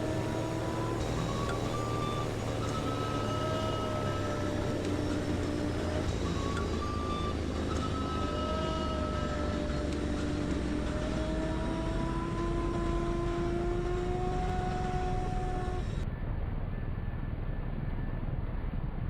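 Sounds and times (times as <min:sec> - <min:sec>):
faint rising tone: 0:00.0 - 0:16.2
vehicle engine rumbling: 0:00.0 - 0:19.0.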